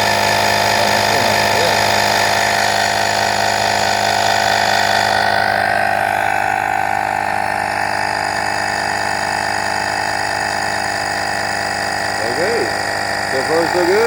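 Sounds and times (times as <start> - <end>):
air compressor buzzing hum: 0.0 - 14.0.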